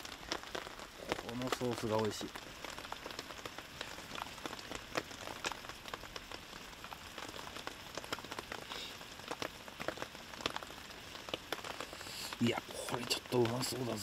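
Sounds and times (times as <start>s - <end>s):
rain pattering: 0.0s - 14.0s.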